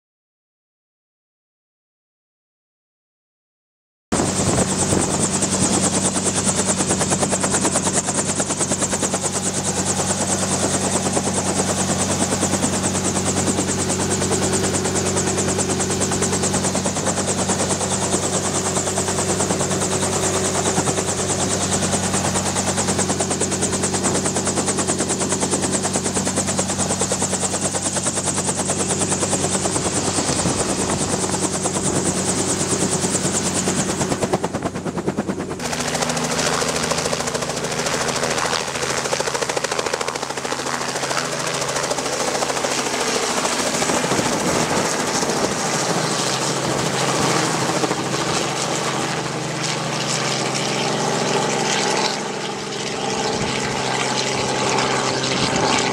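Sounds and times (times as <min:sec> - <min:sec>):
helicopter engine drone: 0:04.1 - 0:55.9
helicopter rotor chopping: 0:04.1 - 0:55.9.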